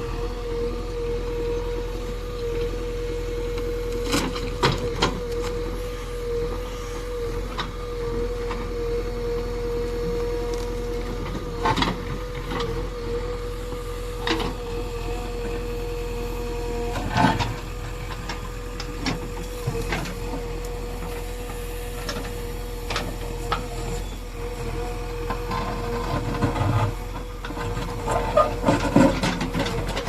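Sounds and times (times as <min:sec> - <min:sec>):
diesel engine whining: 0:00.0 - 0:30.0.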